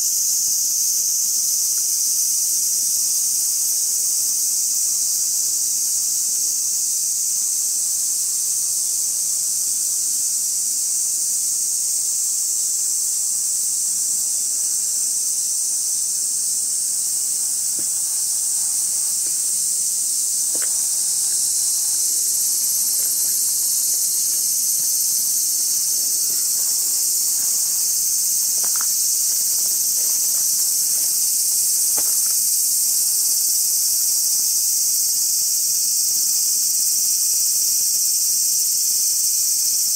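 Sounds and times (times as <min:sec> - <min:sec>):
chorus of insects: 0:00.0 - 0:39.9.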